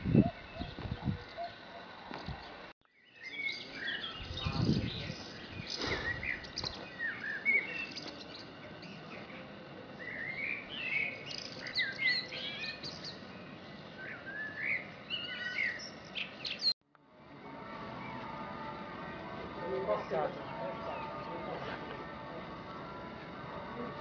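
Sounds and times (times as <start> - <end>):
songbirds chirping: 0.0 - 16.8, 17.5 - 24.0.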